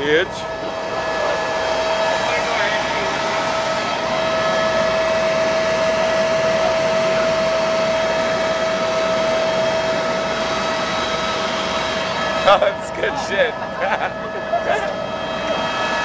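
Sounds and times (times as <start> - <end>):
helicopter engine and rotor rushing: 0.0 - 16.0
high whine: 0.0 - 16.0.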